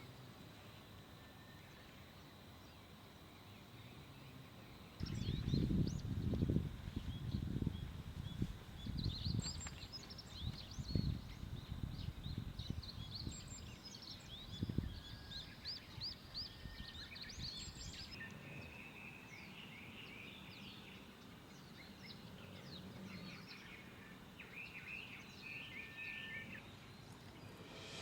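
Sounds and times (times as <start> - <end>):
small birds chirping: 3.4 - 28.0.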